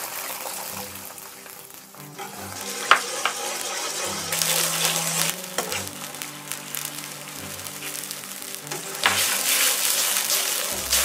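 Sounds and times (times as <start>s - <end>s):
soft background music: 0.0s - 11.0s
water sizzling in hot oil: 0.0s - 11.0s.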